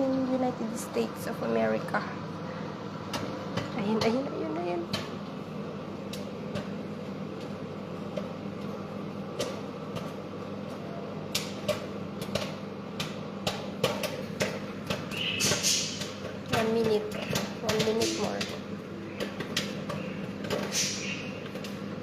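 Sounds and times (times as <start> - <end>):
microwave oven humming: 0.0 - 22.0
popcorn popping: 0.0 - 22.0.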